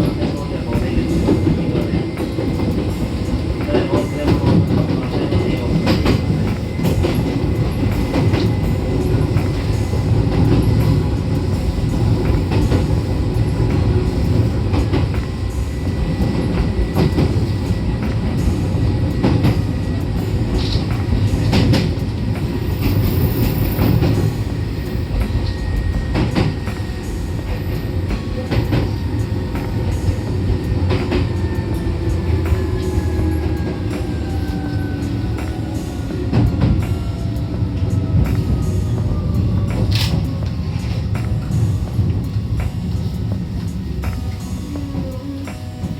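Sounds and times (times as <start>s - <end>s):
train rumbling on rails: 0.0s - 45.9s.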